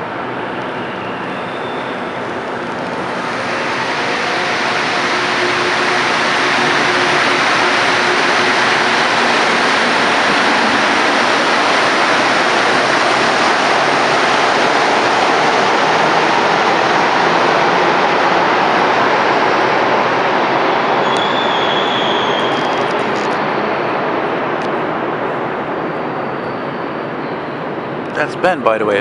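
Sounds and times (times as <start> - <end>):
loud mechanical roar: 0.0 - 26.3.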